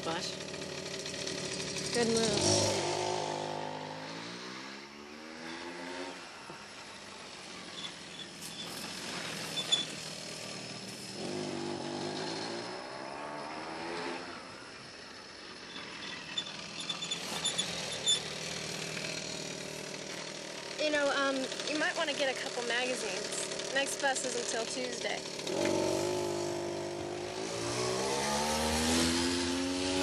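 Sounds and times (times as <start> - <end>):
moped engine revving: 0.0 - 30.0.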